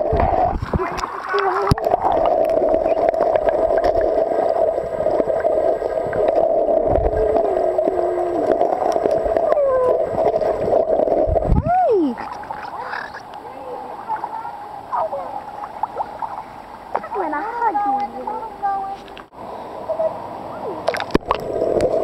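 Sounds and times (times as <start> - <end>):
gurgling bubbling water: 0.0 - 17.2, 20.6 - 22.0
underwater hum: 0.0 - 22.0.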